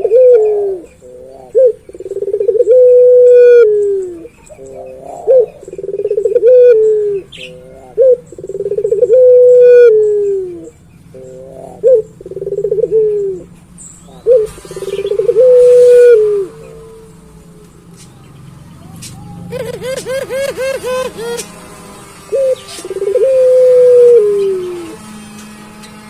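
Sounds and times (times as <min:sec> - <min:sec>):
dove cooing: 0:00.0 - 0:17.3, 0:18.8 - 0:25.0.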